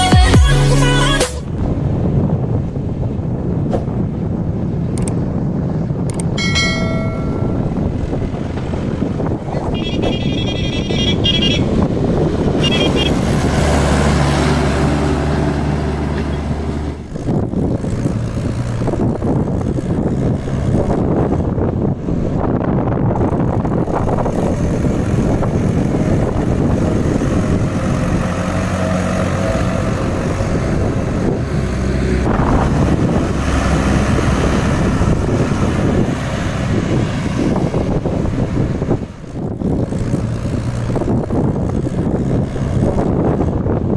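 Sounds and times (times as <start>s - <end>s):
diesel tractor engines under load: 0.0s - 43.9s
road and traffic noise: 0.0s - 43.9s.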